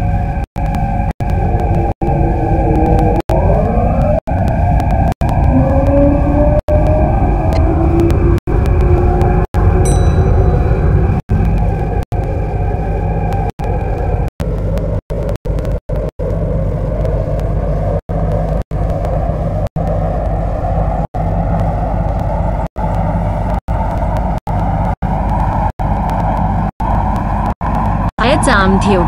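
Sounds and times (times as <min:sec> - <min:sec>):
electric train accelerating: 0:00.0 - 0:29.0.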